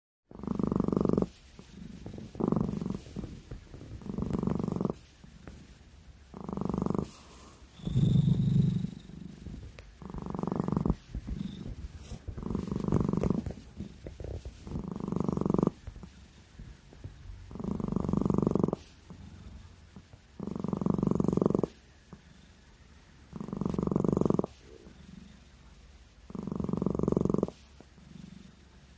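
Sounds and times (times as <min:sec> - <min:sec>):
cat snoring: 0:00.3 - 0:05.7, 0:06.3 - 0:16.2, 0:17.4 - 0:22.6, 0:23.2 - 0:25.5, 0:26.3 - 0:28.9.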